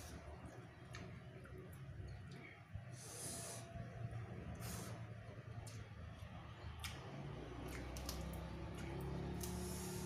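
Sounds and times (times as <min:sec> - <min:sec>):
soft chewing: 0:00.0 - 0:02.9, 0:04.2 - 0:10.0
low steady hum: 0:00.0 - 0:10.0.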